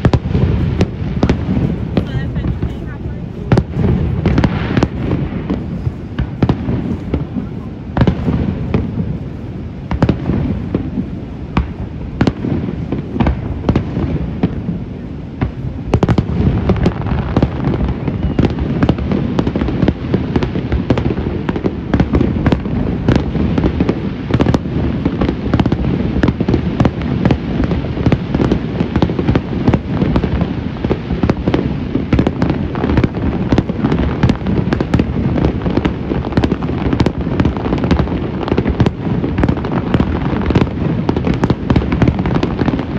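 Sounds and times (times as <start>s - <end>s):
fireworks bangs: 0.0s - 42.9s
fireworks rumble and crackle: 0.0s - 42.9s.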